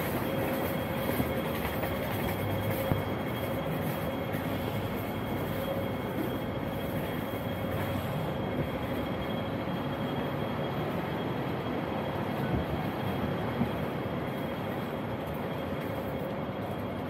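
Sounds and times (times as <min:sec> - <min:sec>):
faint steady whine: 0:00.0 - 0:17.0
tram rumbling on track: 0:00.0 - 0:17.0.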